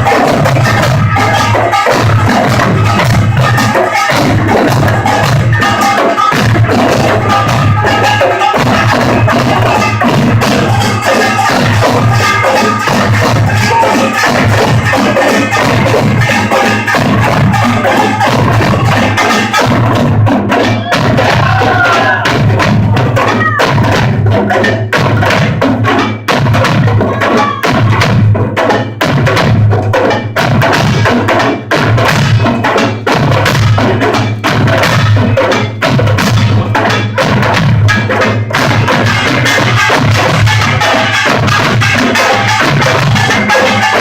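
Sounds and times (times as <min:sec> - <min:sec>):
percussion ensemble playing gongs and drums: 0:00.0 - 0:44.0.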